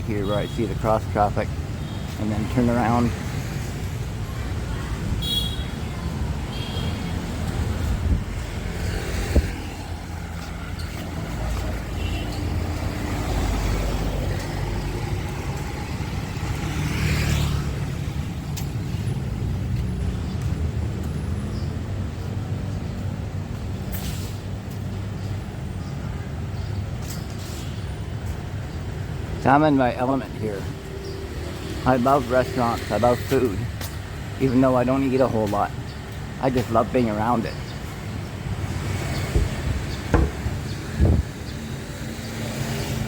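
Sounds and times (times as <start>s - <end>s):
traffic hum: 0.0s - 43.0s.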